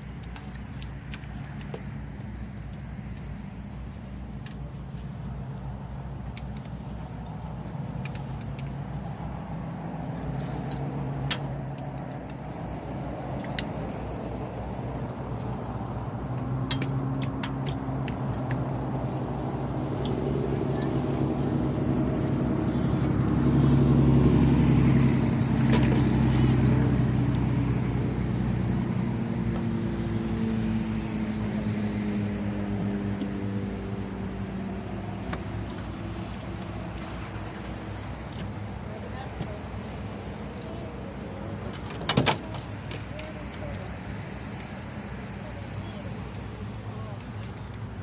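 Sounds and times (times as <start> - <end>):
motorboat engine humming: 0.0 - 48.0.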